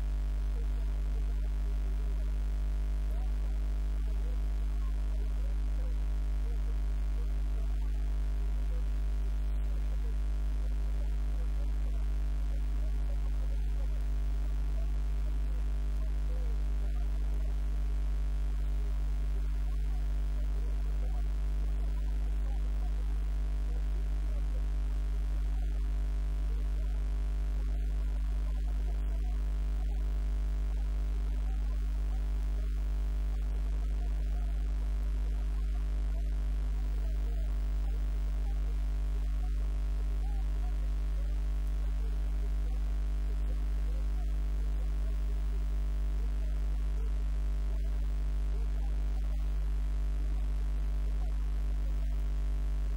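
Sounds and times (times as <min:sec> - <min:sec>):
low electrical hum: 0:00.0 - 0:52.9.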